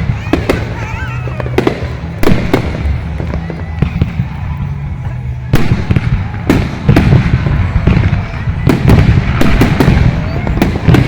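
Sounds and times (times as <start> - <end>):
fireworks bangs and crackles: 0.0 - 11.0
steady low rumble: 0.0 - 11.0.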